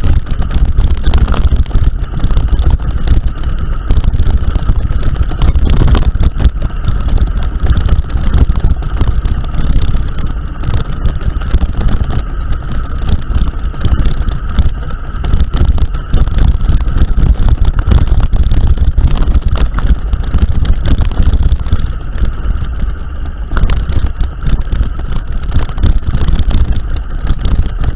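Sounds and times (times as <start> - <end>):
faint steady whine: 0.0 - 27.9
wind buffeting microphone: 0.0 - 27.9.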